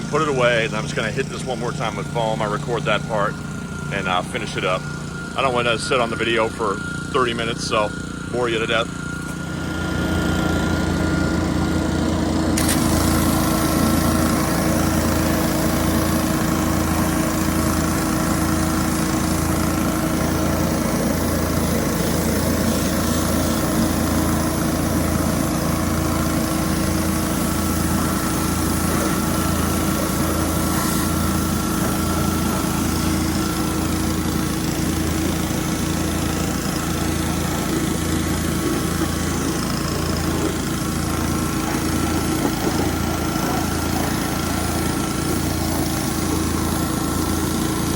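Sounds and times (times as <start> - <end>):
pressure washer running: 0.0 - 47.9.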